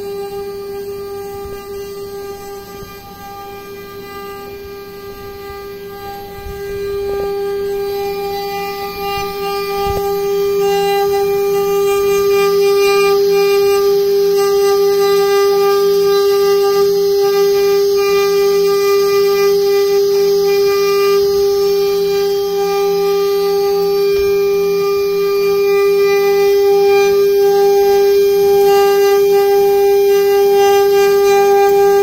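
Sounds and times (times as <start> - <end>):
hiss of wood cutting: 0.0 - 32.0
router spindle whine: 0.0 - 32.0.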